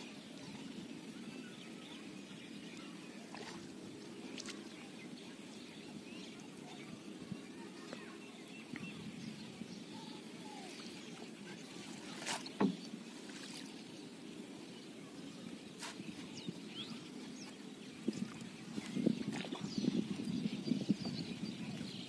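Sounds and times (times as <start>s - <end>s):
water lapping against boat hull: 2.3s - 13.9s, 15.3s - 22.0s.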